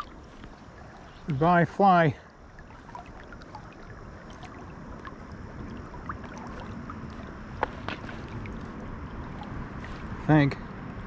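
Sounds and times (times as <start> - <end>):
river current rushing: 0.0 - 10.5.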